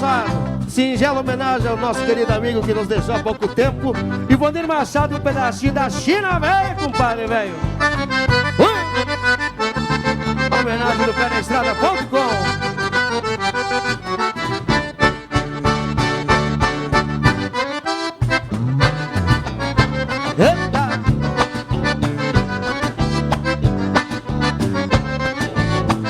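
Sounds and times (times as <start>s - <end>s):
accordion band dance music: 0.0s - 26.0s.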